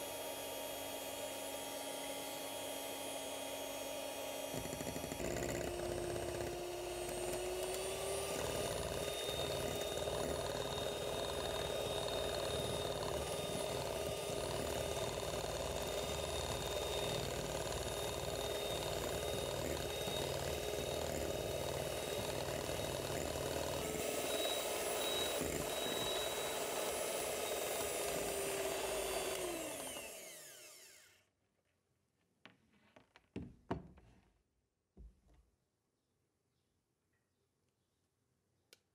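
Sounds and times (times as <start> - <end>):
electric hand mixer whirring: 0.0 - 31.2.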